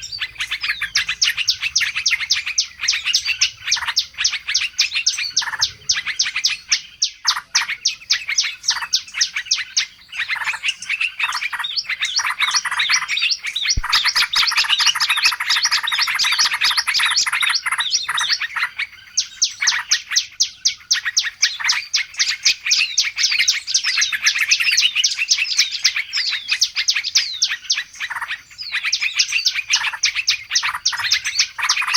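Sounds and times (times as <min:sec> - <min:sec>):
songbirds chirping and twittering: 0:00.0 - 0:31.9.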